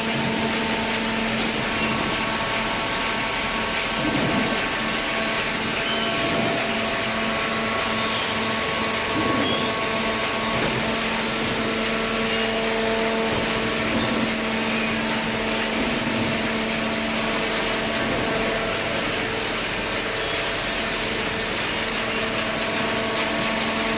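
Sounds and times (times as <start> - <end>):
hydraulic power unit humming: 0.0 - 23.9.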